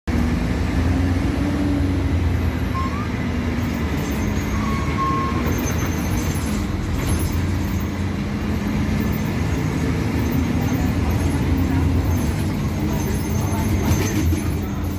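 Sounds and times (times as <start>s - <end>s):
bus diesel engine running: 0.1s - 14.9s.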